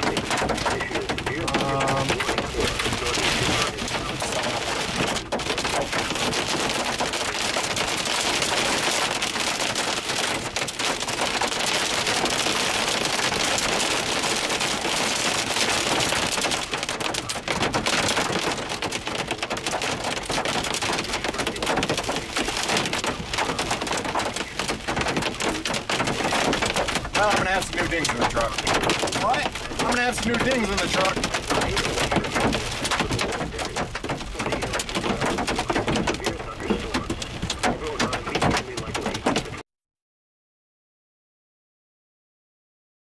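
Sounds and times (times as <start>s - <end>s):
hail and rain on vehicle roof: 0.0s - 39.6s.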